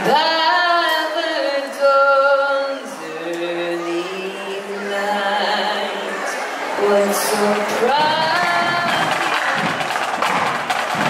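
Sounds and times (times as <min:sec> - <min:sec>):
boy singing into microphone: 0:00.0 - 0:09.6.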